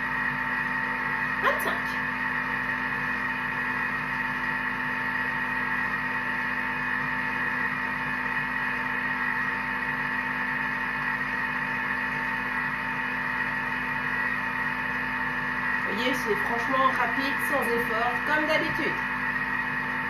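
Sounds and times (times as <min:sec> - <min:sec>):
food processor motor running: 0:00.0 - 0:20.0.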